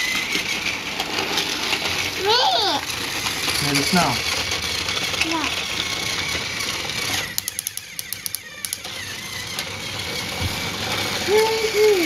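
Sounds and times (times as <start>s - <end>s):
clicks and rattles of track: 0.0s - 12.0s
toy train motor whine: 0.0s - 12.0s.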